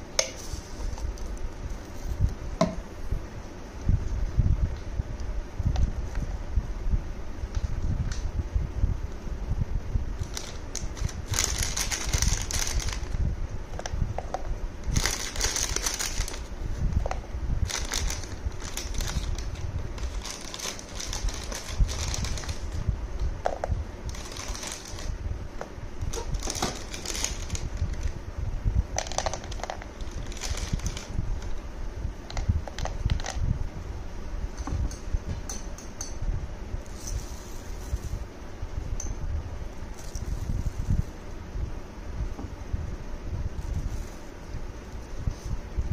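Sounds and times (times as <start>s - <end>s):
low fan hum: 0.0s - 45.9s.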